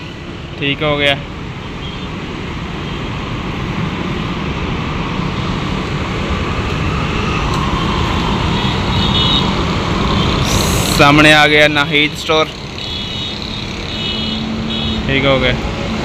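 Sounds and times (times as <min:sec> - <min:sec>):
road traffic rushing: 0:00.0 - 0:16.0.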